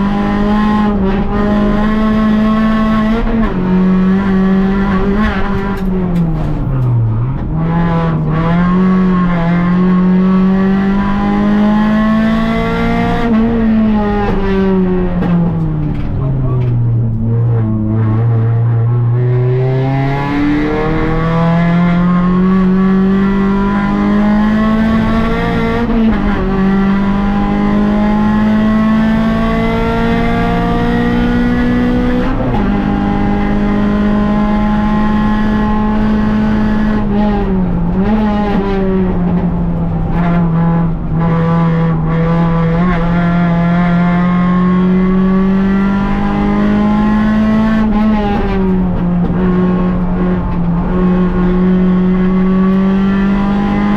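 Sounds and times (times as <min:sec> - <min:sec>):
car engine at high revs: 0:00.0 - 0:53.9.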